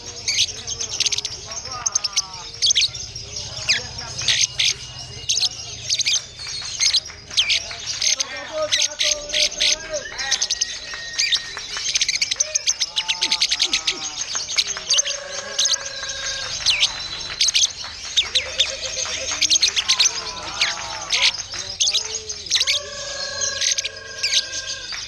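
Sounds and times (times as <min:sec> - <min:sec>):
songbirds chirping and whistling: 0:00.0 - 0:25.0.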